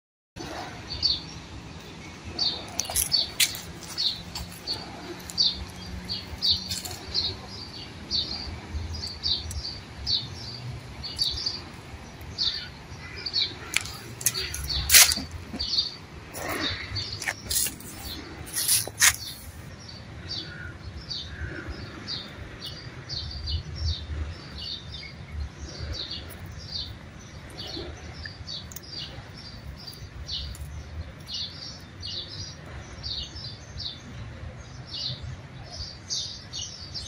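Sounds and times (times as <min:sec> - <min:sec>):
small birds chirping: 0:00.4 - 0:37.0.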